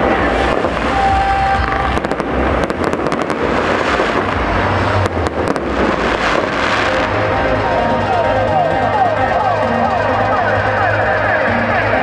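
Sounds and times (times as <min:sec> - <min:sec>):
fireworks crackling: 0:00.0 - 0:12.0
fireworks explosions rumbling: 0:00.0 - 0:12.0.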